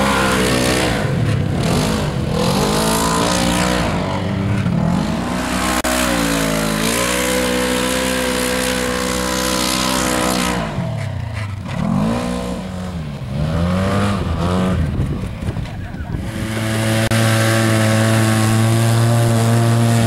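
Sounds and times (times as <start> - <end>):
utv engine revving: 0.0 - 20.0.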